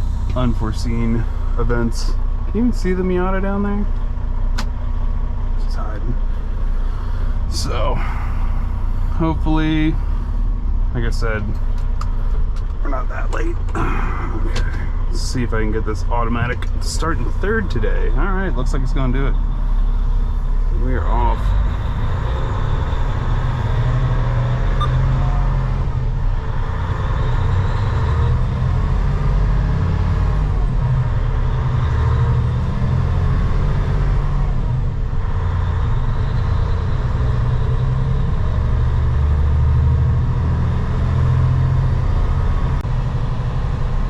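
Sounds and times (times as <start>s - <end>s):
road noise: 0.0s - 44.0s
truck diesel engine drone: 0.0s - 44.0s.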